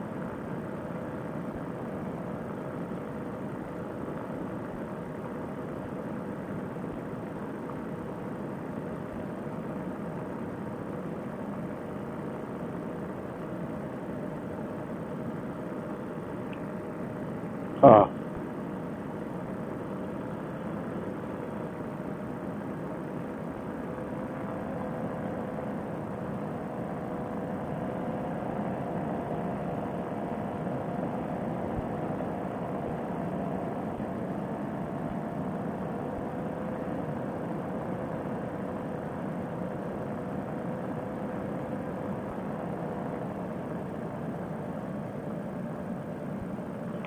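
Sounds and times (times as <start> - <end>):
paramotor engine drone: 0.0 - 47.0.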